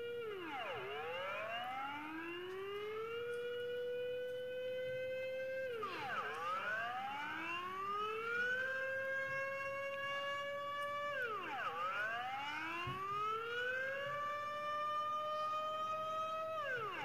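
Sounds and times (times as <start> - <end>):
warning siren chord: 0.0 - 17.0.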